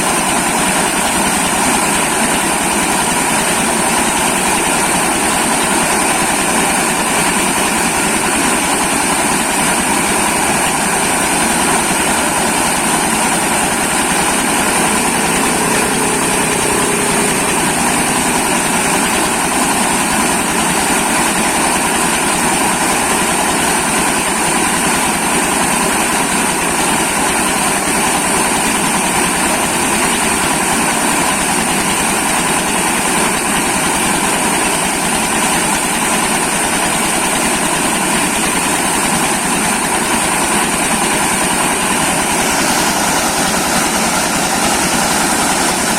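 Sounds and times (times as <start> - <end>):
milling machine running: 0.0 - 45.9.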